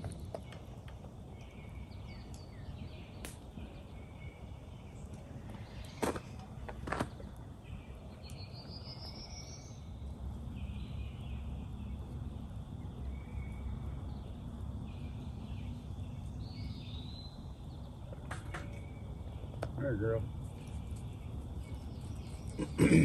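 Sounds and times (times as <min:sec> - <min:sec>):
songbird phrases: 0:00.0 - 0:23.0.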